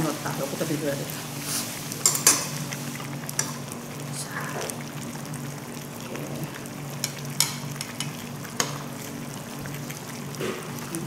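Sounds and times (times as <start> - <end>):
stew simmering in a pot: 0.0 - 11.0.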